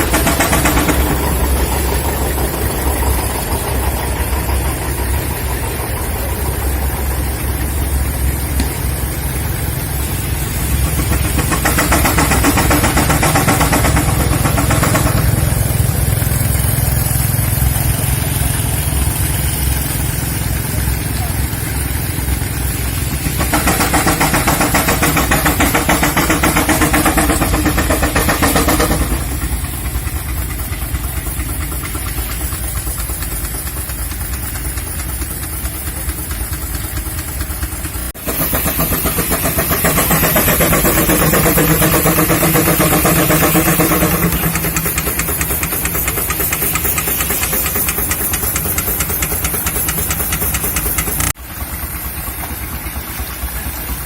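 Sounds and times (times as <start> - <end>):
engine running sawmill: 0.0 - 54.0.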